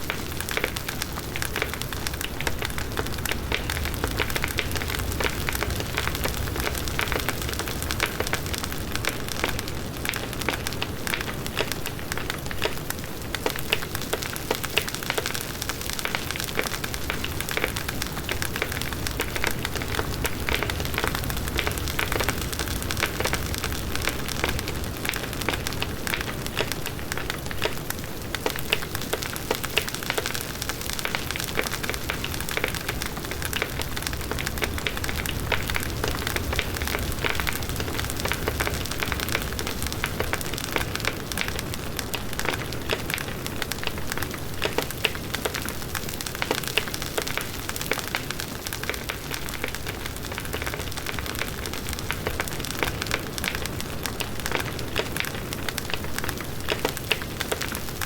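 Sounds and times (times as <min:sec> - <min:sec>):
burning wood crackling and popping: 0:00.0 - 0:58.0.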